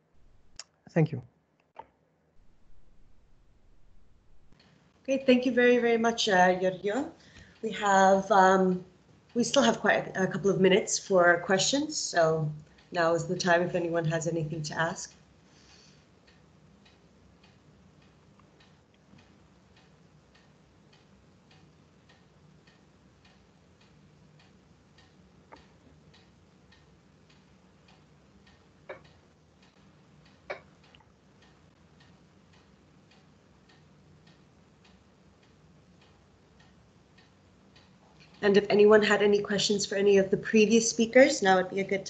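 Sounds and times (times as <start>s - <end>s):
faint regular ticking: 1.6s - 42.0s
low steady hum: 2.3s - 42.0s.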